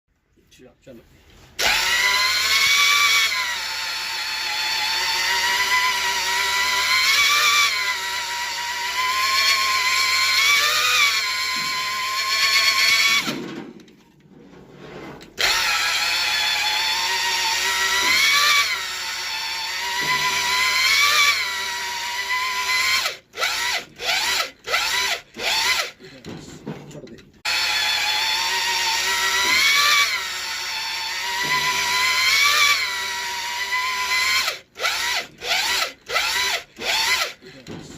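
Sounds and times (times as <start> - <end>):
electric drill whining: 1.6 - 13.4, 15.4 - 26.0, 27.4 - 37.7.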